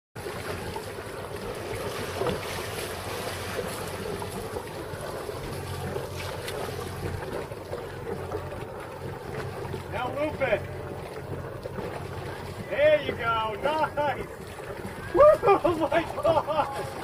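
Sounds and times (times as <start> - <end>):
low steady hum: 0.2 - 17.0
waves washing: 0.2 - 17.0.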